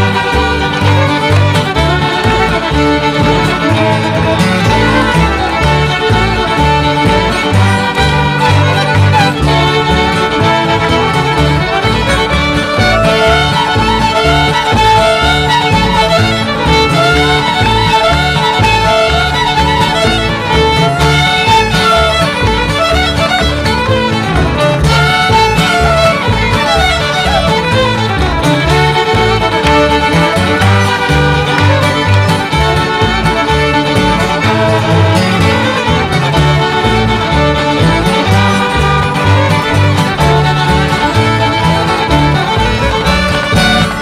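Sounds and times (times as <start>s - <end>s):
fiddle melody: 0.0s - 44.0s
guitar: 0.0s - 44.0s.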